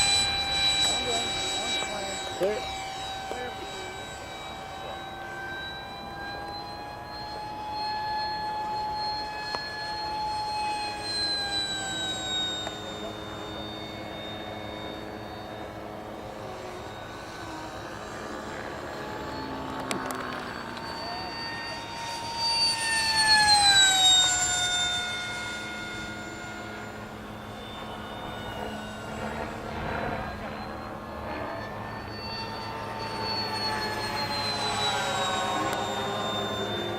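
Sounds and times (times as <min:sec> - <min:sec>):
electric ducted fan whining: 0:00.0 - 0:36.9.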